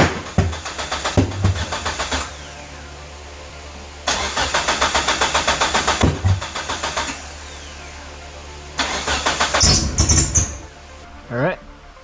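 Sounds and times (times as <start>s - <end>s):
engine starter cranking: 0.0s - 11.0s.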